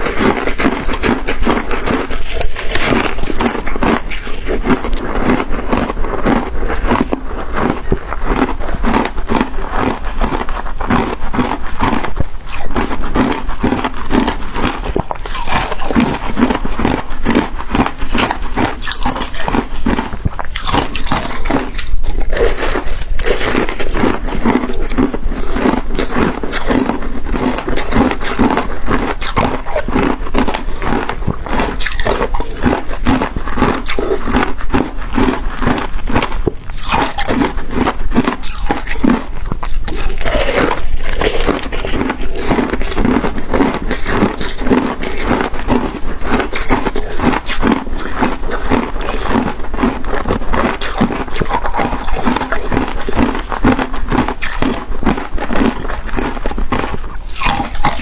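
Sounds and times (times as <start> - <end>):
crunching and chewing shaved ice: 0.0 - 58.0.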